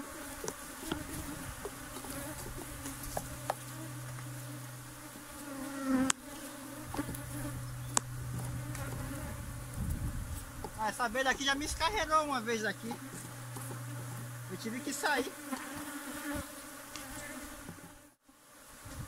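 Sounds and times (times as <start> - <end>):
bees flying past: 0.0 - 19.0
honeybees buzzing: 0.0 - 19.0.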